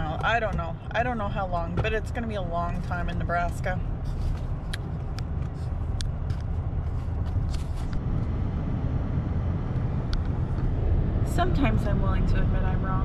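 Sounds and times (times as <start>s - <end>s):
truck road and engine rumble: 0.0s - 13.0s.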